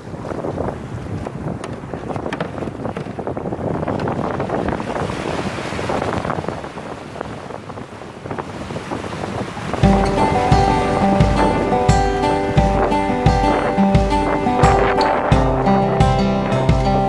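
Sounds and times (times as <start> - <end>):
surf washing and foaming: 0.0 - 17.0
wind on microphone: 0.0 - 17.0.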